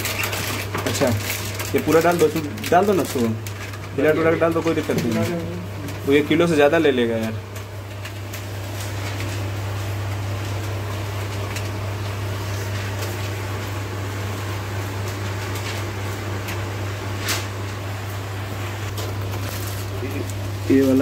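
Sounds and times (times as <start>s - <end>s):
low mechanical hum with hiss: 0.0s - 21.0s.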